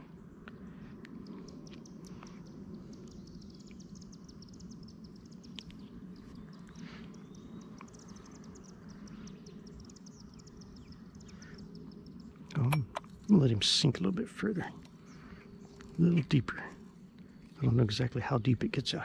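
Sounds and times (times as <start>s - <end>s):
faint gliding calls: 0.0s - 19.0s
steady low hum: 0.0s - 19.0s.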